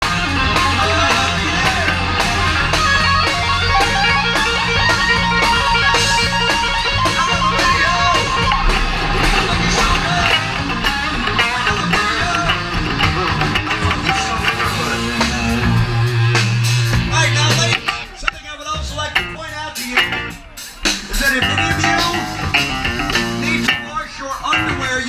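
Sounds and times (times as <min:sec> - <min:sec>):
bass line: 0:00.0 - 0:25.0
electric guitar: 0:00.0 - 0:25.0
steady drum beat: 0:00.0 - 0:25.0.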